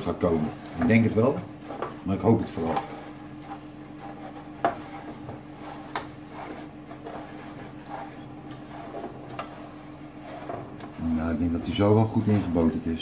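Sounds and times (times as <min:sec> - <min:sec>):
pastry brush scraping metal tin: 0:00.0 - 0:13.0.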